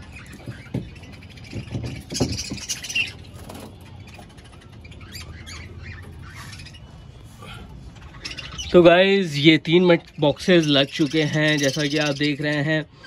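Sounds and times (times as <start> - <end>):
budgerigars chirping: 0.0 - 7.2, 7.8 - 13.0.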